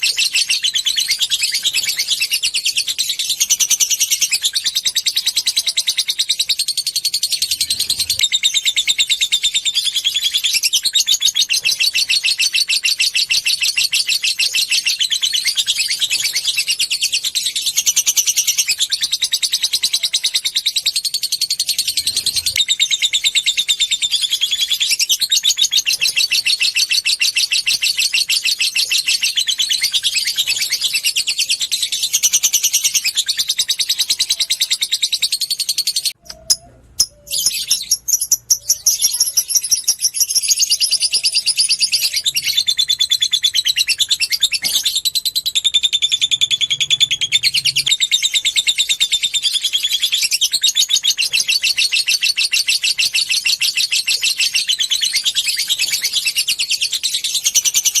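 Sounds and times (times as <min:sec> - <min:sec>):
lovebird chattering trill: 0:00.0 - 0:58.0.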